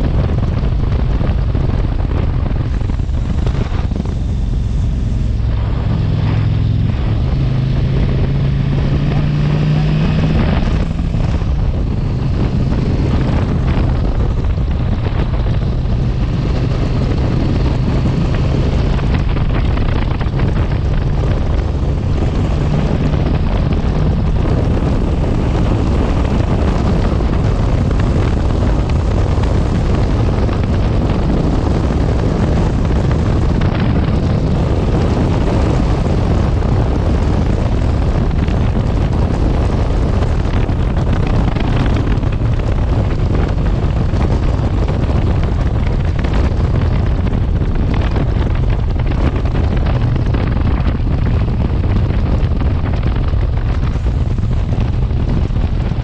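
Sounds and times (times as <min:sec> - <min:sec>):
motorcycle engine: 0:00.0 - 0:56.0
wind rushing on microphone: 0:00.0 - 0:56.0.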